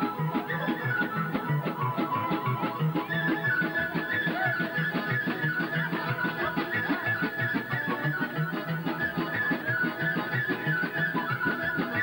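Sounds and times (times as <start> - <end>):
bass and rhythm accompaniment: 0.0 - 12.0
wooden flute melody: 0.0 - 12.0.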